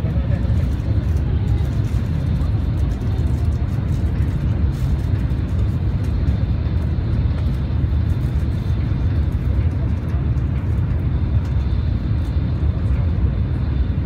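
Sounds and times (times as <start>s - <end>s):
train rumbling at high speed: 0.0s - 14.0s.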